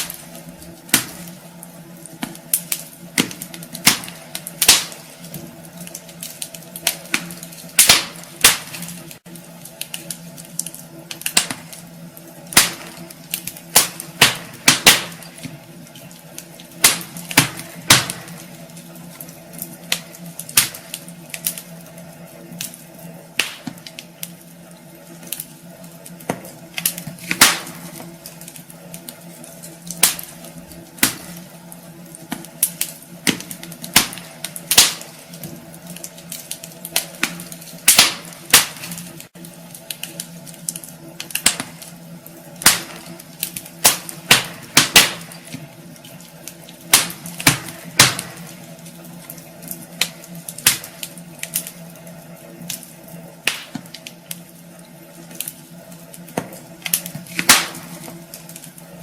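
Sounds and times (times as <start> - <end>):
logs crackling and popping: 0.0 - 59.0
steady low hum: 0.0 - 59.0.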